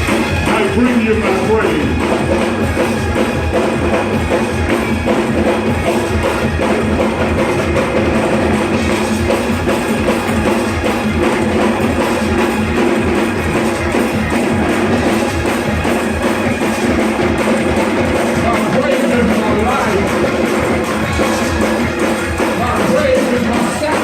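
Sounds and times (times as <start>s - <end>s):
church band playing: 0.0s - 24.0s
fast kick drum beat: 0.0s - 24.0s.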